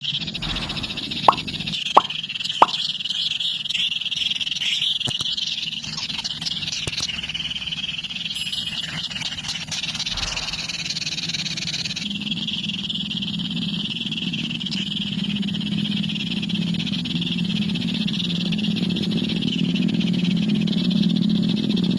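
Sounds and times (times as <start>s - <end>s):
trilling chorus of calling animals: 0.1s - 5.0s, 5.6s - 21.9s.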